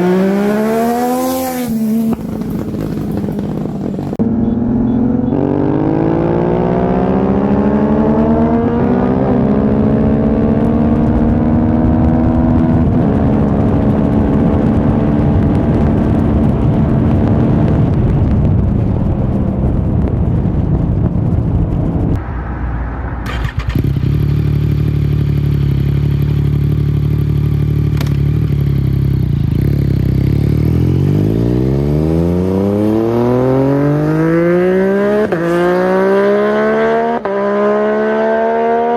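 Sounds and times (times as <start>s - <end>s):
motorcycle engine accelerating: 0.0s - 22.2s, 23.2s - 38.9s.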